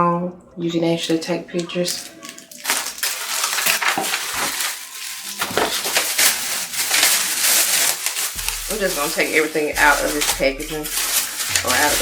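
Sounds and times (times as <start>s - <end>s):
plastic packaging crinkling: 1.1s - 12.0s.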